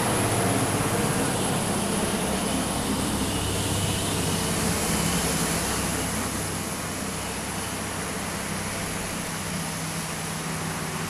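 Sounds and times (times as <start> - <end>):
diesel truck engine passing: 0.0 - 11.0.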